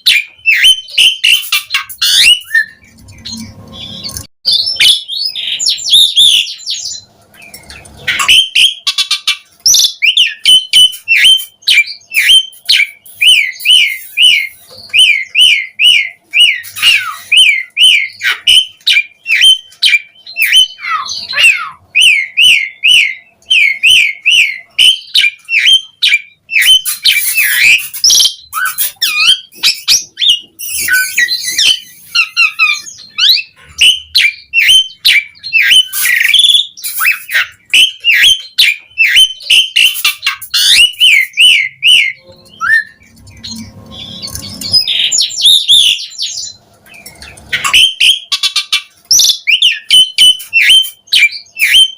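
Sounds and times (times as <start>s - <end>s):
starling whistling song: 0.0s - 51.9s
bird scratchy chattering: 0.2s - 4.3s, 7.0s - 21.8s, 26.5s - 51.8s.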